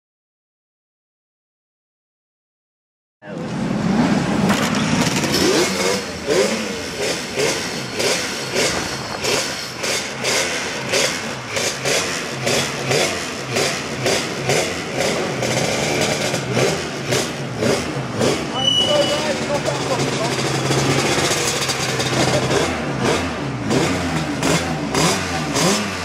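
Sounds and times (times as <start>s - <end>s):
two-stroke engine revving: 3.5s - 26.0s.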